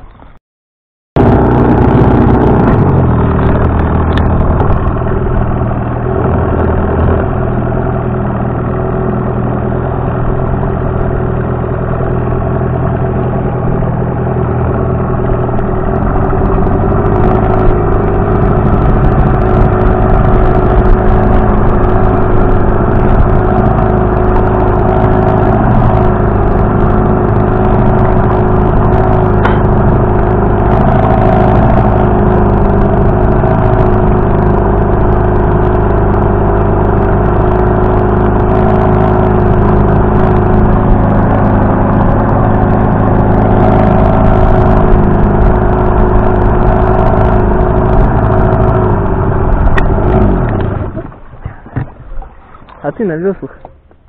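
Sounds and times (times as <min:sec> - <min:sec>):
outboard motor running: 0:01.2 - 0:54.0.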